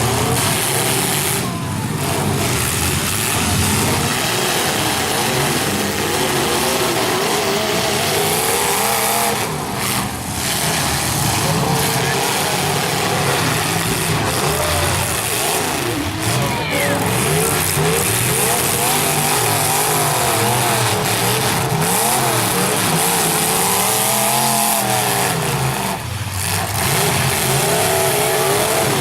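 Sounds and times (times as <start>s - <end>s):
voices shouting: 0.0s - 25.8s
car engines revving: 0.0s - 29.0s.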